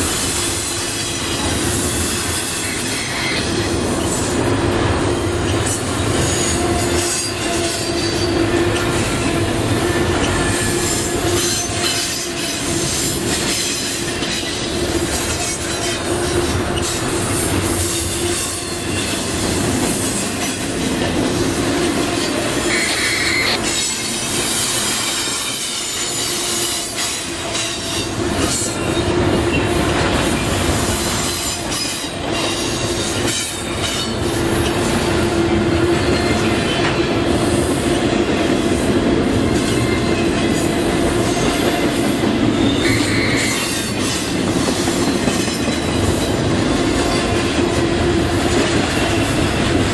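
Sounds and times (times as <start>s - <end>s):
freight train wheels grinding on rails: 0.0s - 49.9s.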